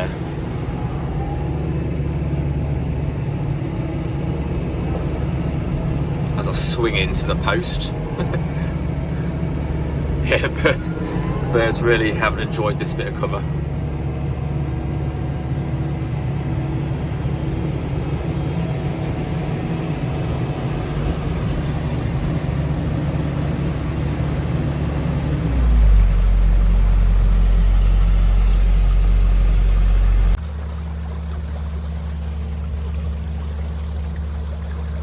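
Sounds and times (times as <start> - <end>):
deep steady hum: 0.0 - 35.0
diesel engine running: 0.0 - 35.0.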